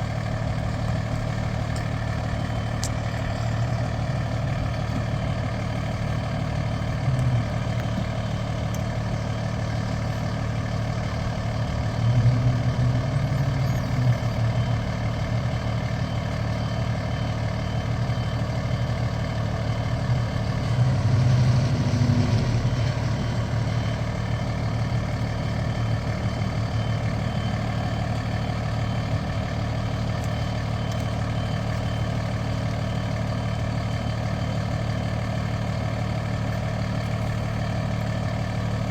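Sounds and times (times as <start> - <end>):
heavy truck engine running: 0.0 - 38.9.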